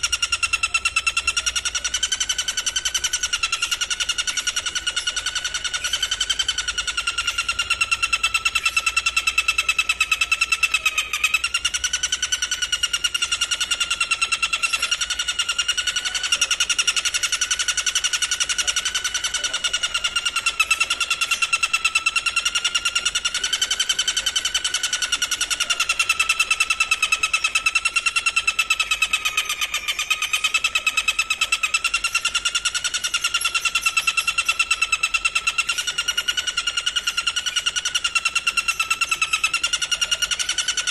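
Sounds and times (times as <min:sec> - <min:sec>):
insect trilling: 0:00.0 - 0:40.9.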